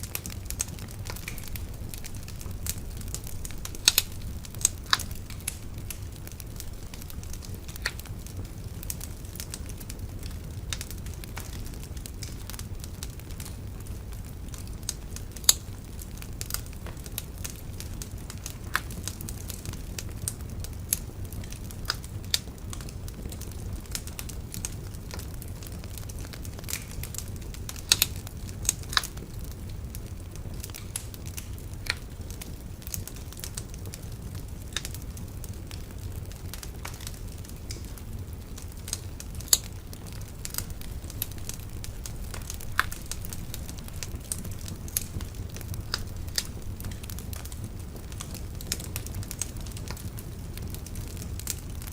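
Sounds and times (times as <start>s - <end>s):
bonfire crackling and popping: 0.0s - 51.9s.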